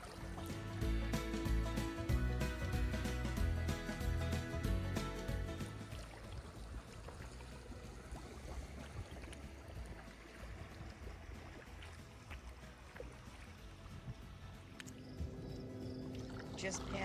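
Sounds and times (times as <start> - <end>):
paddle splashing water: 0.0 - 17.0.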